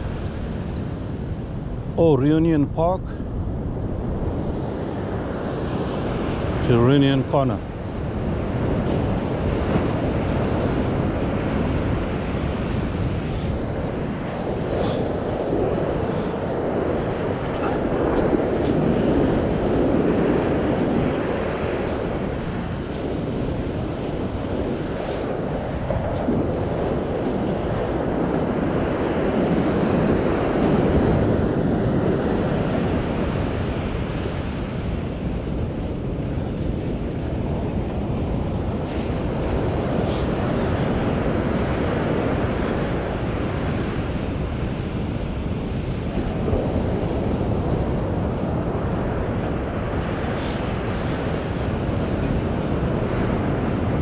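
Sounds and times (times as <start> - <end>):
ocean surf breaking: 0.0 - 54.0
wind rumbling on microphone: 0.0 - 54.0.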